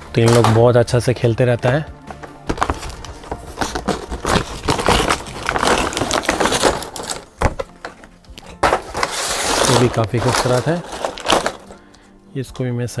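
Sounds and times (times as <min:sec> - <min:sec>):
toy packaging crackling and clattering: 0:00.0 - 0:00.8, 0:02.2 - 0:12.1.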